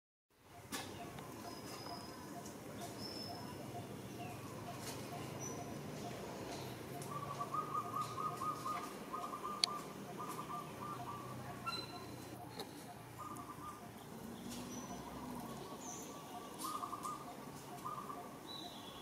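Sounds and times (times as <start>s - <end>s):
bird rapid trill: 0.5s - 19.0s.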